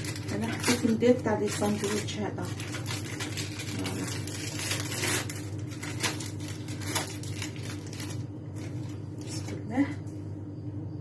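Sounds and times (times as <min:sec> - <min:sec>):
rustling of baking paper: 0:00.0 - 0:09.7
steady low hum: 0:00.0 - 0:11.0.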